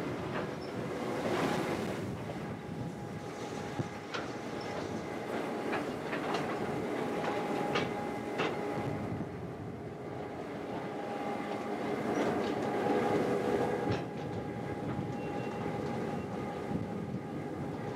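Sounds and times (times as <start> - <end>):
diesel locomotive engine hum: 0.0 - 17.9.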